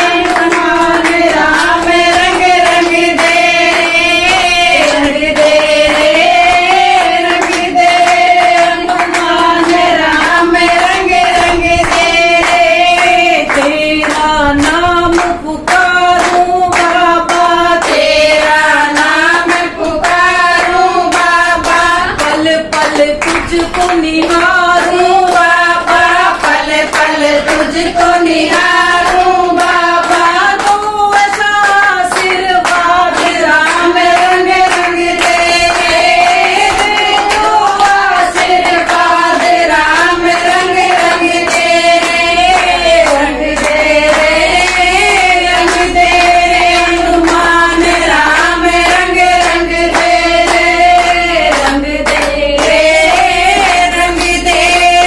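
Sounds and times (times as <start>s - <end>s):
hand clapping to the beat: 0.0s - 55.0s
women singing devotional song: 0.0s - 55.0s.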